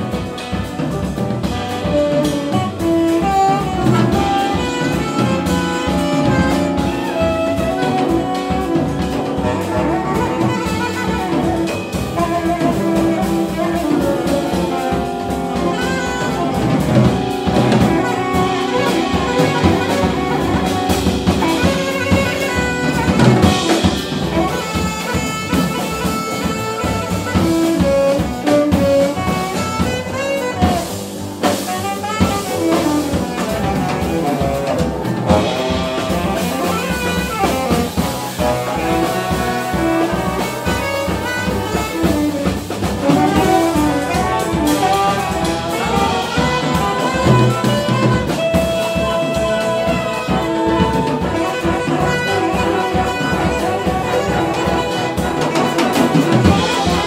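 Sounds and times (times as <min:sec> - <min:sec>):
drum kit: 0:00.0 - 0:57.0
jazz big band playing: 0:00.0 - 0:57.0
tenor saxophone solo: 0:00.0 - 0:57.0.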